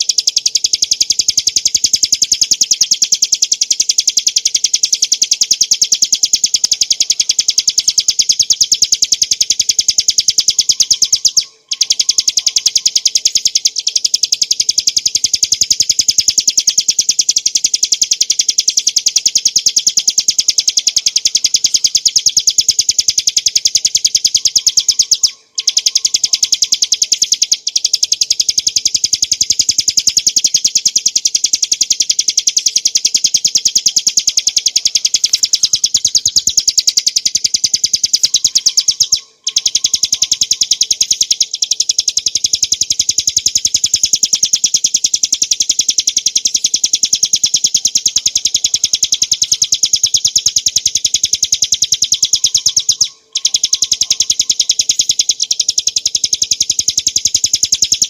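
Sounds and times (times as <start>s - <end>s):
small bird singing rapid high notes: 0.0s - 58.0s.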